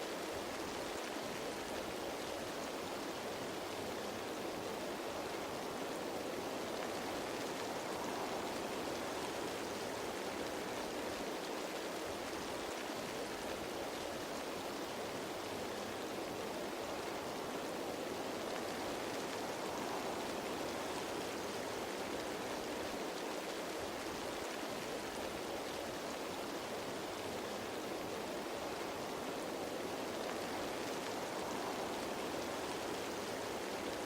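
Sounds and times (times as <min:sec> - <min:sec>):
rain falling on leaves: 0:00.0 - 0:34.0.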